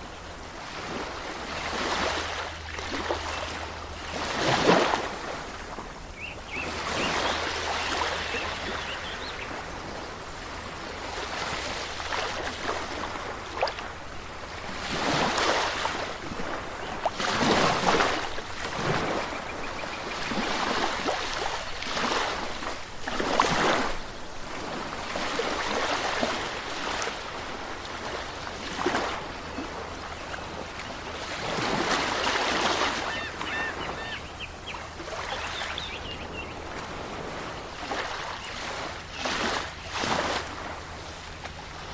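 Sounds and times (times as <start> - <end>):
ocean waves washing onto shore: 0.0 - 41.9.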